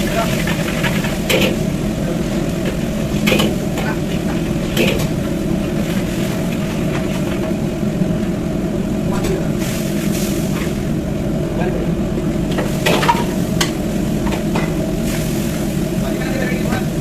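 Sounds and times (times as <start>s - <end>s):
gas burner rushing: 0.0s - 17.0s.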